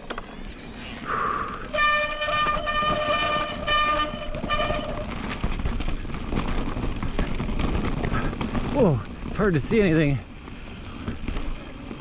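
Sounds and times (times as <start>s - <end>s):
rattling tyre noise: 0.0s - 12.0s.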